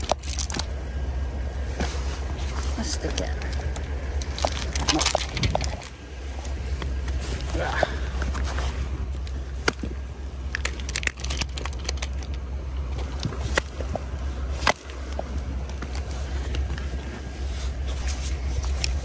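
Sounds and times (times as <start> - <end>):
stones clacking under boots: 0.0 - 0.8, 1.8 - 7.6, 8.2 - 16.9
steady low rumble: 0.0 - 19.0.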